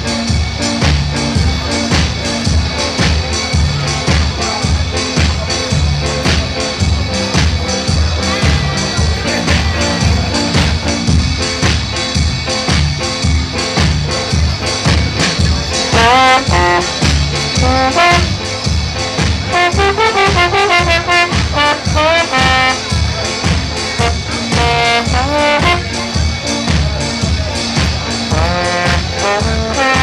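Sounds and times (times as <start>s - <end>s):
upbeat music with brass horns: 0.0s - 30.0s.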